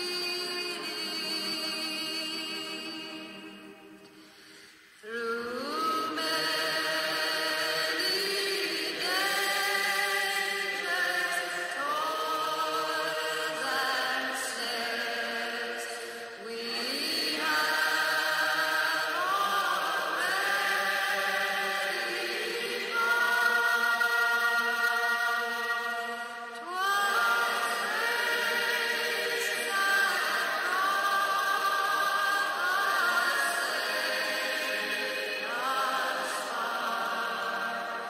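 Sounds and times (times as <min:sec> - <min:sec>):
chant-like choral music: 0:00.0 - 0:38.0.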